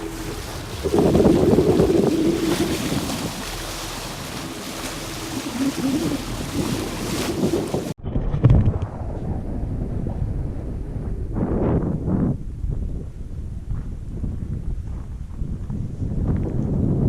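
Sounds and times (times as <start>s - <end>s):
water rushing past boat: 0.0s - 16.0s
wind buffeting microphone: 0.0s - 17.0s.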